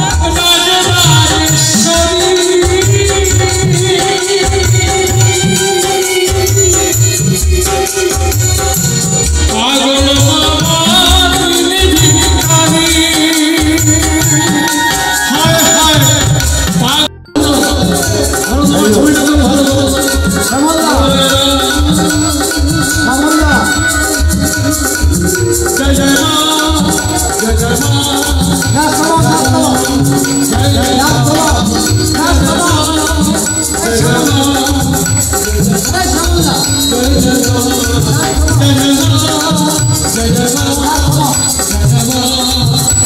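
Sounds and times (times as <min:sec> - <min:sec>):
high jingling percussion: 0:00.0 - 0:43.0
man singing through loudspeakers: 0:00.0 - 0:43.0
steady drum beat: 0:00.0 - 0:43.0.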